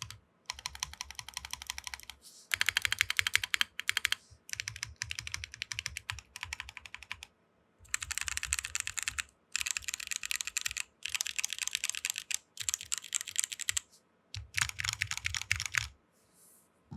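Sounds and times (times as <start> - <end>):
mechanical keyboard typing: 0.0 - 7.3, 7.9 - 13.8, 14.4 - 15.9.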